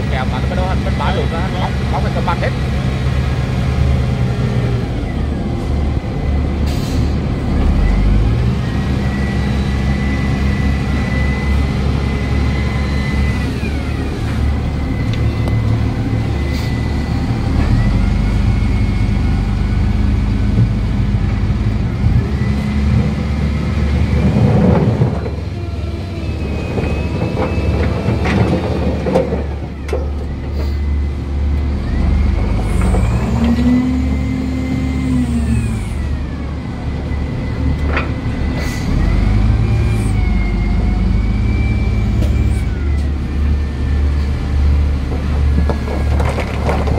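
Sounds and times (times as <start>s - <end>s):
diesel engine running: 0.0s - 46.9s
hydraulics whining: 0.0s - 46.9s.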